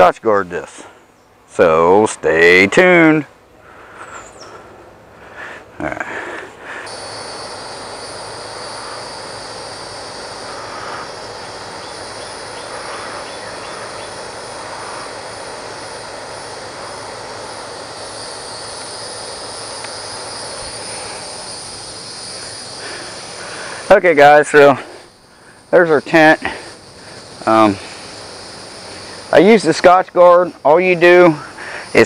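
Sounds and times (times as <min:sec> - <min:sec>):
background hiss: 0:00.0 - 0:32.0
crickets and insects buzzing: 0:00.0 - 0:32.0.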